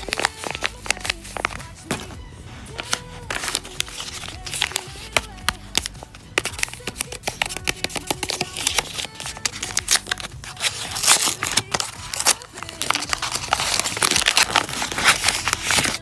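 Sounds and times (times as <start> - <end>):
plastic packaging crinkling: 0.0 - 2.1, 2.7 - 16.0.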